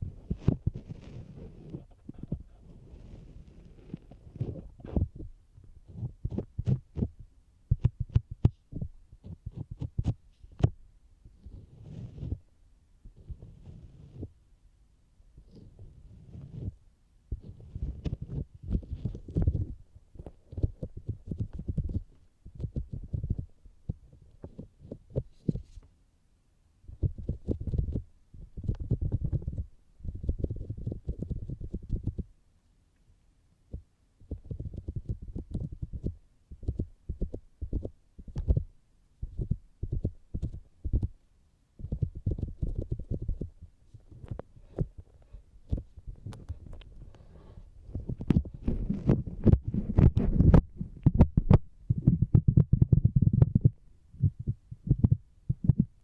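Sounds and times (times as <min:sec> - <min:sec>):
muffled tapping on microphone: 0:00.0 - 0:02.6, 0:03.5 - 0:10.8, 0:16.4 - 0:25.9, 0:26.9 - 0:32.3, 0:33.7 - 0:41.2, 0:41.8 - 0:47.2, 0:47.9 - 0:56.0.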